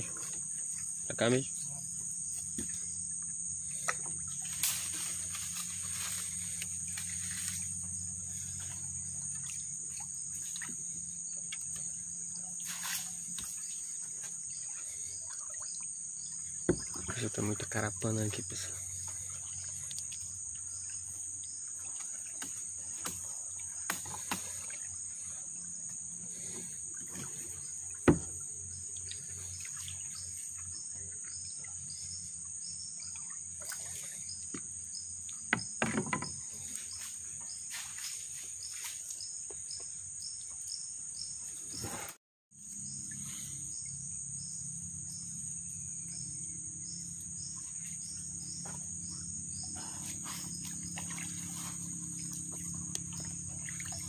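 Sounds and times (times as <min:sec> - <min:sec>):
crickets chorus: 0:00.0 - 0:54.0.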